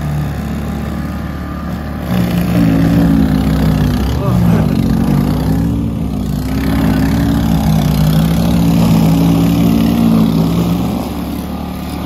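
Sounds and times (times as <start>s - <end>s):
snow blower motor hum: 0.0s - 12.0s.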